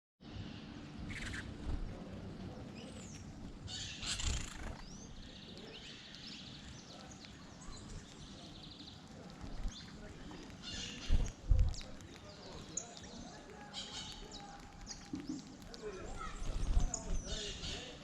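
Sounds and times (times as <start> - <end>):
low background rumble: 0.2 - 18.0
small birds chirping: 0.3 - 18.0.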